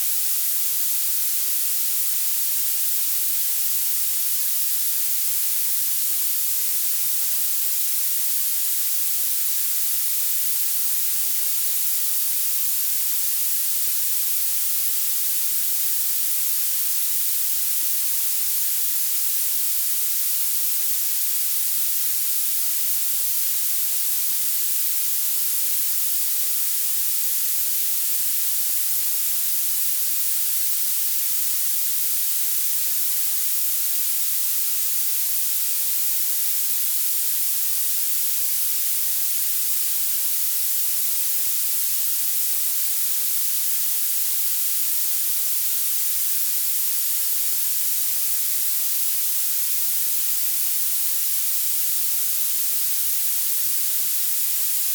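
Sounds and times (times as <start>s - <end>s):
steady high-pitched hiss: 0.0s - 54.9s.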